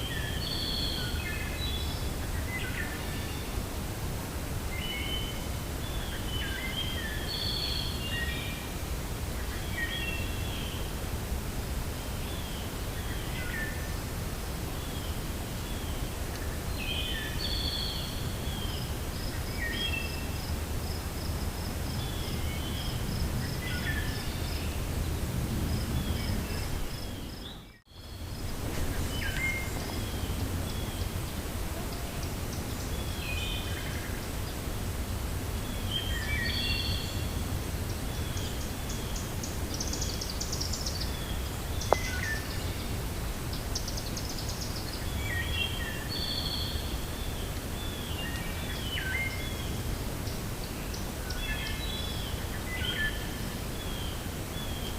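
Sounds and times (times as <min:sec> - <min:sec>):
songbirds chirping: 0:00.0 - 0:54.9
wind rushing through forest: 0:00.0 - 0:54.9.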